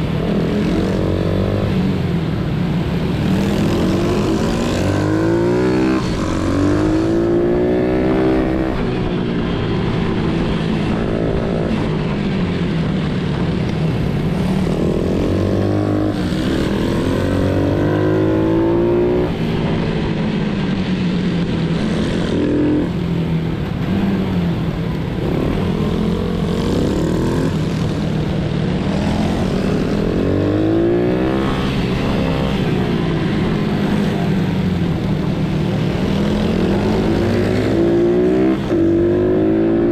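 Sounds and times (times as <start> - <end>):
pit bike engines revving: 0.0 - 39.9
steady engine drone: 0.0 - 39.9.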